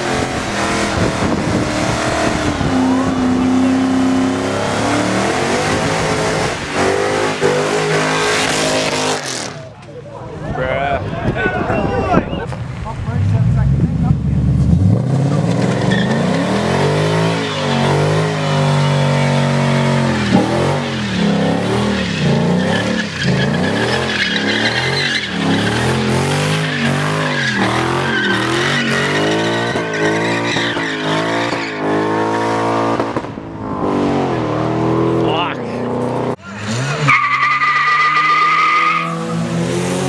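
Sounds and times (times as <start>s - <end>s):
car engine revving: 0.0s - 9.8s, 12.6s - 40.0s
tires squealing: 0.0s - 9.8s, 13.8s - 40.0s.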